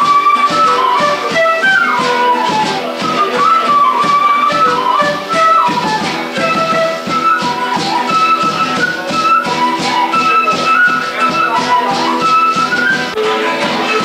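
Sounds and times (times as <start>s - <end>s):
flute melody: 0.0s - 14.0s
rhythmic percussion: 0.0s - 14.0s
strummed acoustic guitar: 0.0s - 14.0s.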